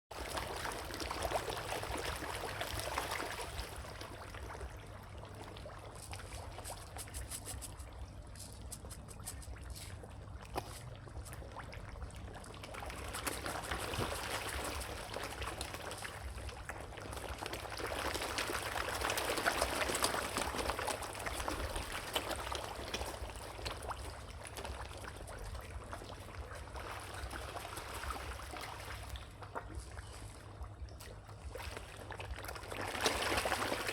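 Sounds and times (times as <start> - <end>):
water splashing and trickling: 0.1 - 33.9.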